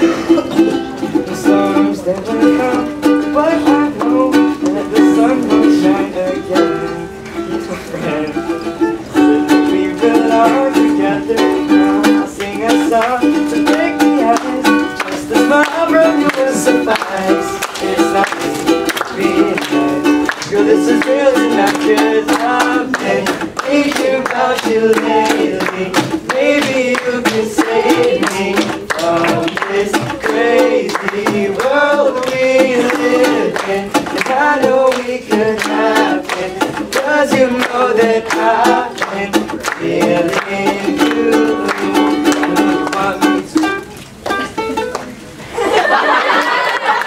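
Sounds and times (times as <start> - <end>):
person singing: 0.0 - 43.9
strummed string instrument: 0.0 - 45.4.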